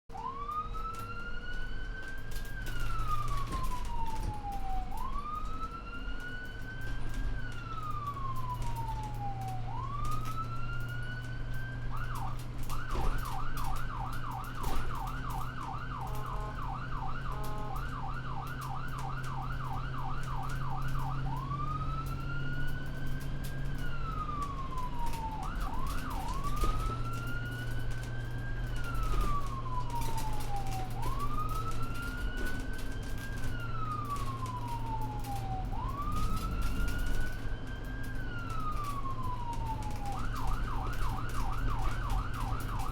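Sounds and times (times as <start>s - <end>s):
ambulance siren: 0.1s - 42.9s.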